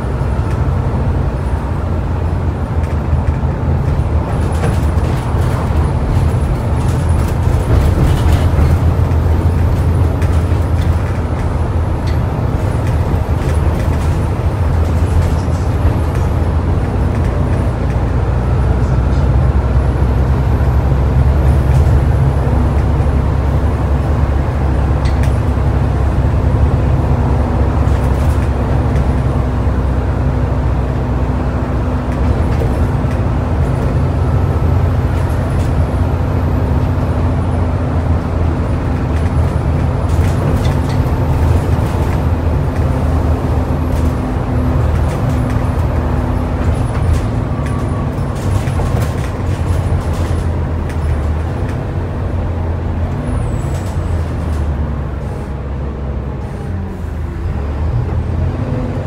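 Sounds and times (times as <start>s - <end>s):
bus body rattling: 0.0s - 59.0s
bus diesel engine running: 0.0s - 59.0s.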